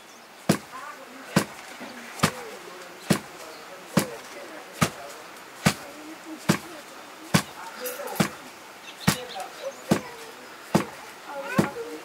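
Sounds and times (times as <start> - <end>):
faint voices: 0.0 - 12.0
loud rhythmic thuds: 0.4 - 12.0.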